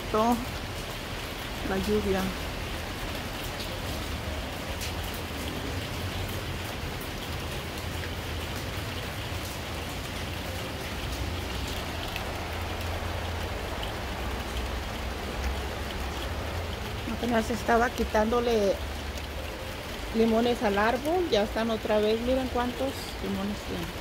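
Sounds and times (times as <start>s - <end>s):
raindrops ticking: 0.0s - 24.0s
steady rain falling: 0.0s - 24.0s.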